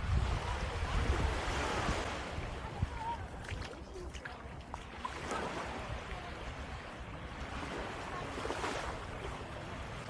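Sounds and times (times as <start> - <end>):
surf washing on shore: 0.0 - 10.0.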